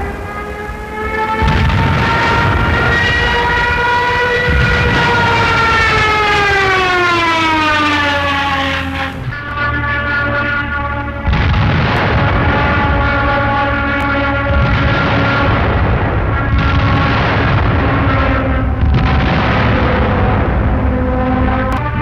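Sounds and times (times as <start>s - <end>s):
low engine rumble: 0.0s - 22.0s
siren wailing: 0.0s - 22.0s.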